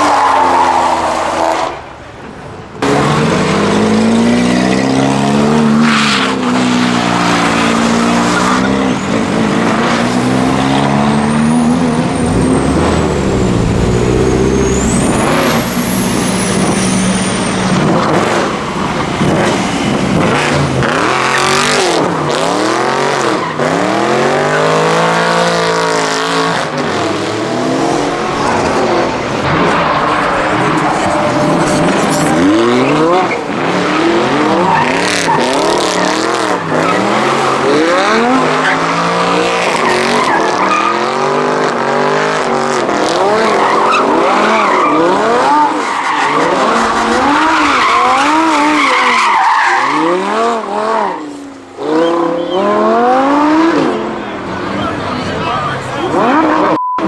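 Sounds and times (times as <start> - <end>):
car engines revving: 0.0 - 56.8
tyres squealing and skidding: 0.0 - 56.8.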